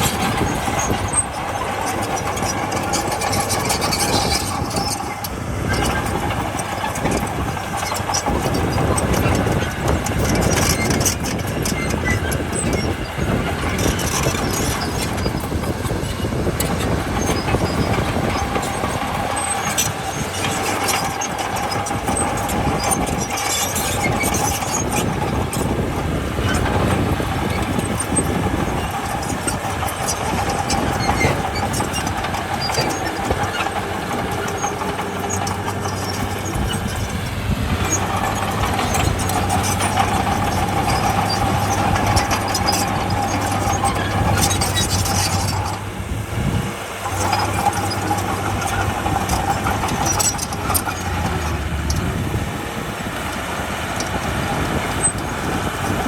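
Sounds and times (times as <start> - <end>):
clanks and clicks: 0.0 - 56.0
constant whine: 0.0 - 56.0
heavy diesel machinery running: 0.0 - 56.0.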